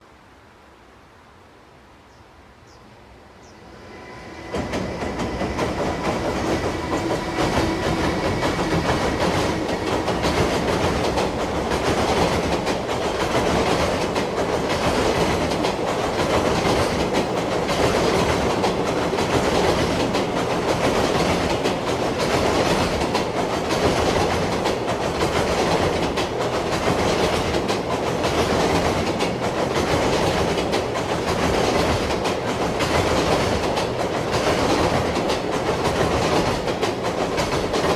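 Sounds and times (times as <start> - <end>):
freight train passing: 2.5 - 37.9.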